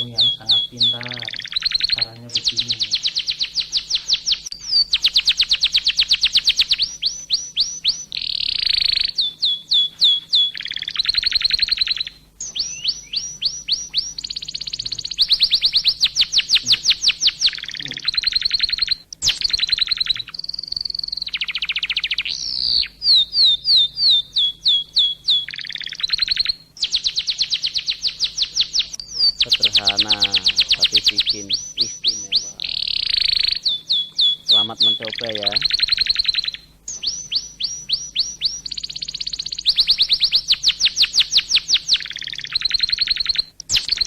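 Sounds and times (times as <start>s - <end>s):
songbird chirping: 0.0s - 44.0s.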